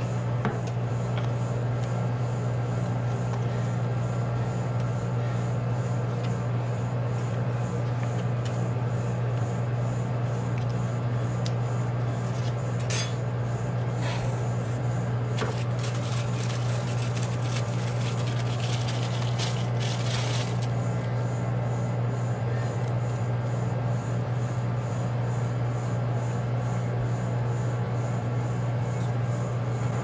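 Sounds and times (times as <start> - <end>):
refrigeration unit humming: 0.0 - 30.0.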